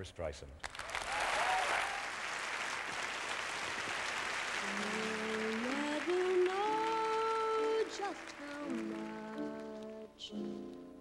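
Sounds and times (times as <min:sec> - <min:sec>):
audience applause: 0:00.6 - 0:09.9.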